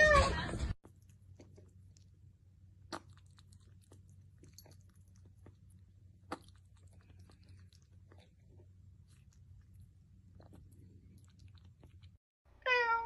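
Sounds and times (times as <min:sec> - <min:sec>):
kitten lapping water: 0:00.8 - 0:12.2.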